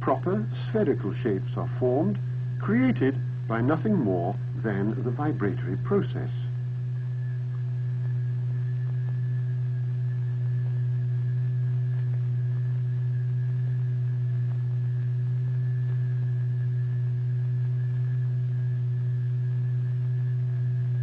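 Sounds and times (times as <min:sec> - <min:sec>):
low pure sine tone: 0:00.0 - 0:21.0.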